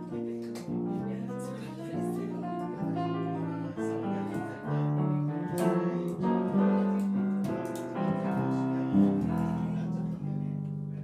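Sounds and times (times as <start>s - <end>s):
keyboard playing ballad chords: 0.0s - 11.0s.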